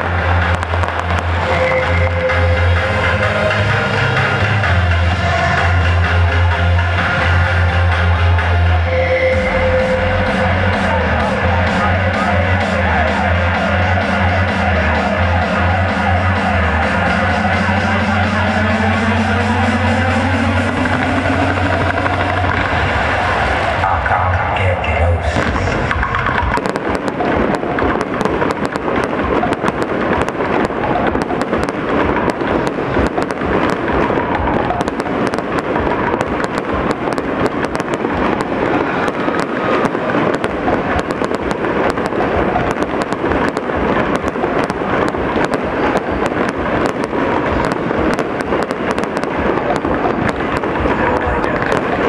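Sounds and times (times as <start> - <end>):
fireworks bangs and crackles: 0.0 - 24.2, 25.0 - 52.0.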